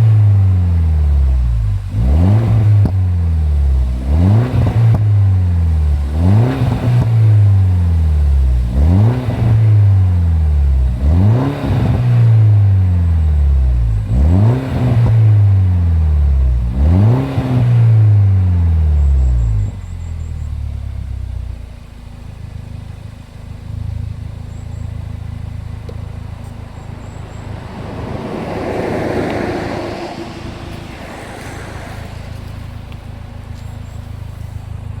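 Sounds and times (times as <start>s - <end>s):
car engine revving: 0.0s - 20.4s, 23.6s - 35.0s.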